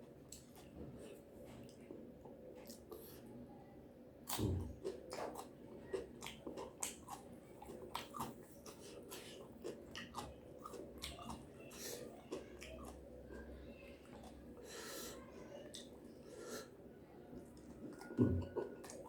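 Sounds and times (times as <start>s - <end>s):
person chewing food: 0.1s - 3.3s, 4.2s - 16.8s, 17.4s - 19.0s.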